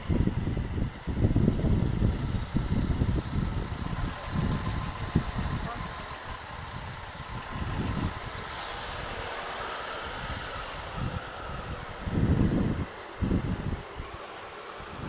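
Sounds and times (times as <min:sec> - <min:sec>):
city bus: 0:00.0 - 0:15.0
motorcycle engine rumbling: 0:00.0 - 0:15.0.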